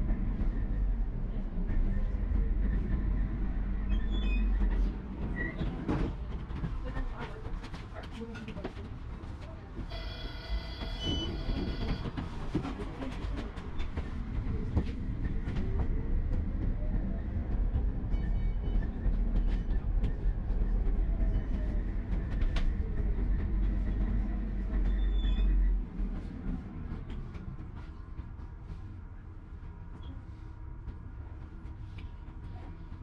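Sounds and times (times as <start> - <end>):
tram rumbling on rails: 0.0 - 33.0.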